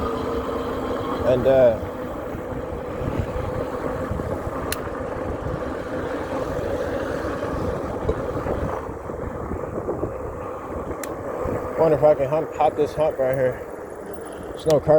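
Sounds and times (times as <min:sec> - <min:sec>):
road noise: 0:00.0 - 0:14.9
wind rumbling on microphone: 0:00.0 - 0:14.9.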